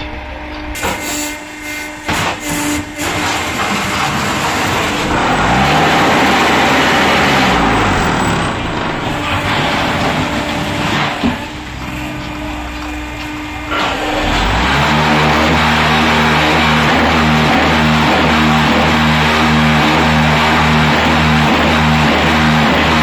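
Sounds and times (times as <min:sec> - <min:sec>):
heavy machinery engine: 0:00.0 - 0:23.0.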